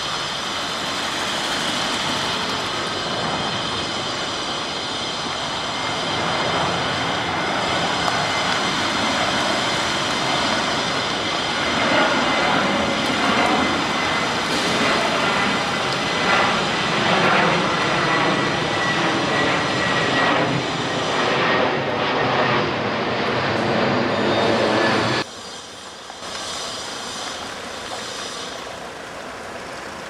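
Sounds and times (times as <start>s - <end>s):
jet airliner roaring overhead: 0.0s - 30.0s.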